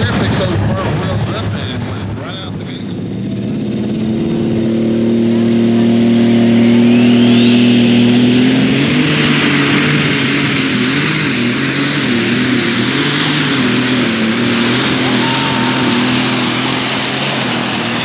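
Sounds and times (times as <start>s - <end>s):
tractor engine at high revs: 0.0s - 18.0s
shrill turbo whine: 3.0s - 18.0s.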